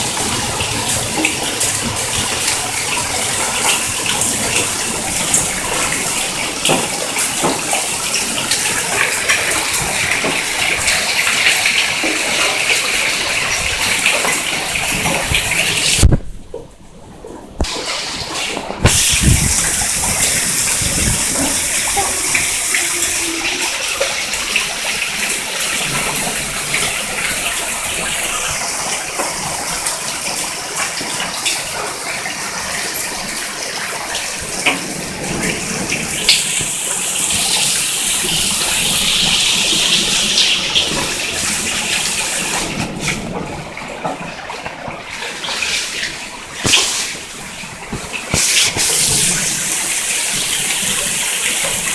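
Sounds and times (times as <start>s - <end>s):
hail and heavy rain hissing: 0.0s - 16.1s, 17.7s - 51.9s.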